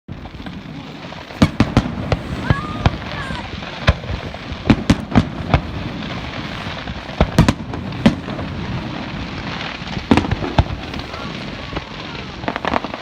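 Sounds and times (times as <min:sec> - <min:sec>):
fireworks bangs: 0:00.1 - 0:13.0.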